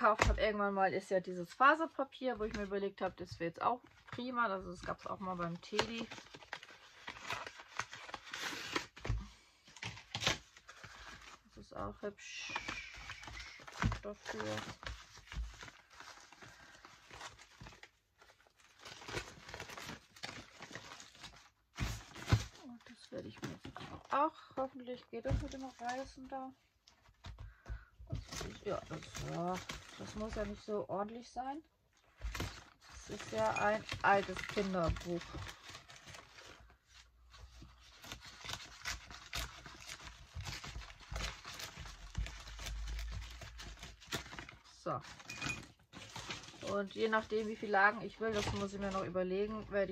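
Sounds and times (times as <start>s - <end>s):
paper sheet rustling and crinkling: 1.4s - 49.9s.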